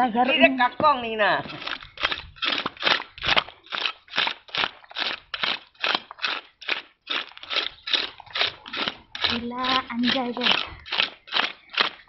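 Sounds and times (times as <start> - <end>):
scales scraped off fish: 1.5 - 12.0.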